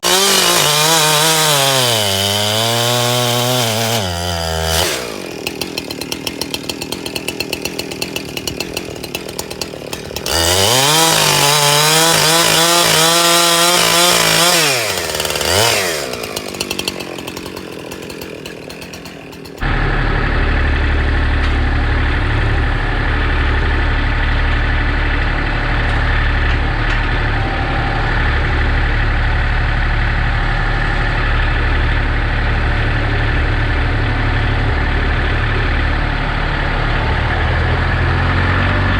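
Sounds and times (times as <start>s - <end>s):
chainsaw idling and revving: 0.0s - 38.9s
wood splitter engine drone: 0.0s - 38.9s.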